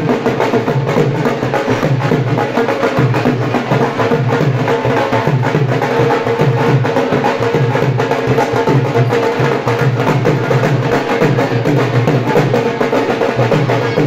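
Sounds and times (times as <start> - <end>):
dhol drum beating: 0.0 - 14.0.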